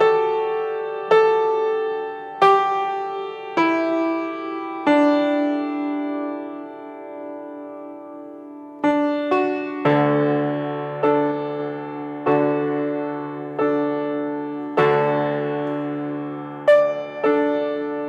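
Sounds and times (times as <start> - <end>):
slow solo piano: 0.0 - 18.0.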